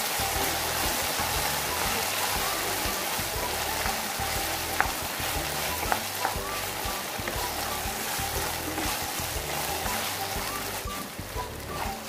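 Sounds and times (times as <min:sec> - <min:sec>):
spatula stirring: 0:00.0 - 0:12.0
taro frying in hot oil: 0:00.0 - 0:12.0.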